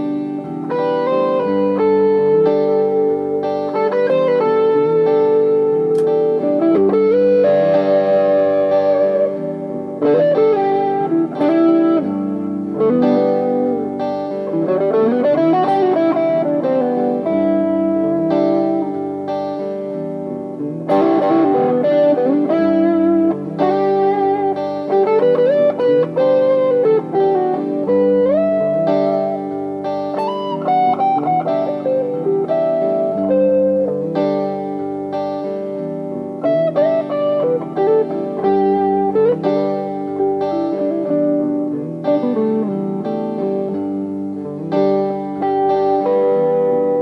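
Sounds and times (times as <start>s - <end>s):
clean electric guitar playing: 0.0s - 47.0s.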